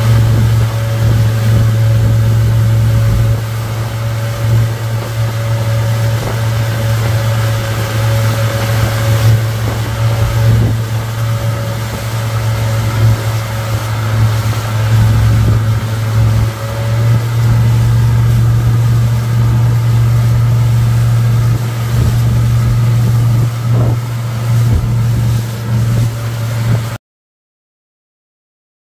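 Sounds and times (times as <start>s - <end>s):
outboard motor drone: 0.0s - 27.0s
water rushing in wake: 0.0s - 27.0s.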